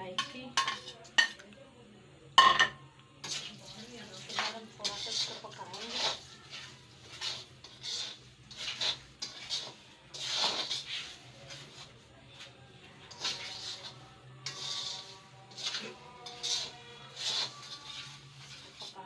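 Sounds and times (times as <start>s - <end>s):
spatula scraping in pan: 0.1s - 1.3s, 3.2s - 19.0s.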